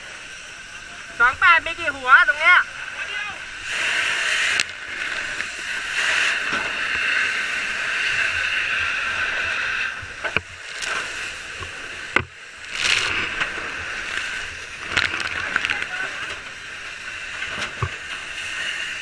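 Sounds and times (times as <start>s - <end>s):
fire hose water spraying: 0.0s - 19.0s.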